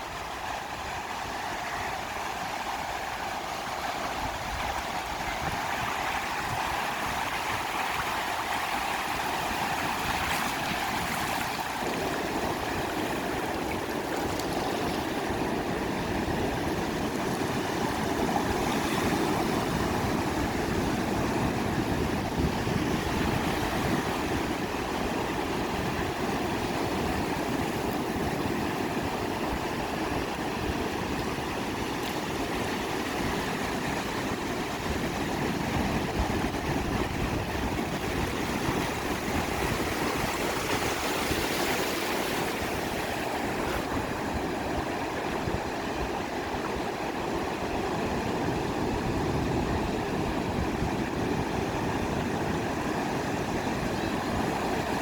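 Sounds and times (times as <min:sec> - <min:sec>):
sea surf washing onto beach: 0:00.0 - 0:55.0.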